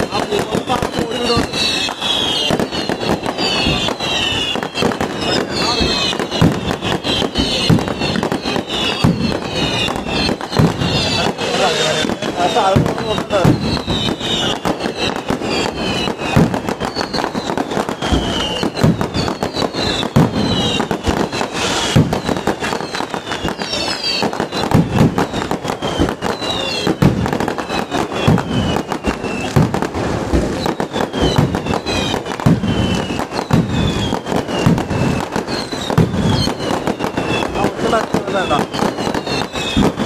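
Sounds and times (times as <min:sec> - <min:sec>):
fireworks bangs and crackling: 0:00.0 - 0:40.0
fireworks whistling: 0:00.0 - 0:40.0.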